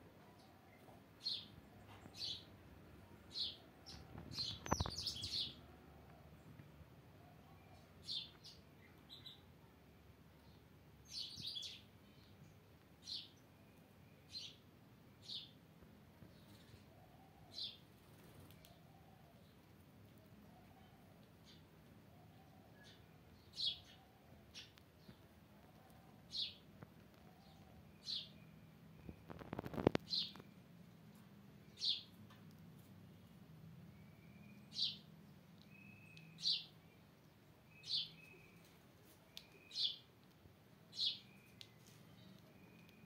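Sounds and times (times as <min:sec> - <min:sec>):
bird chirping: 0:00.2 - 0:06.6, 0:07.2 - 0:15.6, 0:16.2 - 0:30.7, 0:31.6 - 0:32.5, 0:33.1 - 0:43.0.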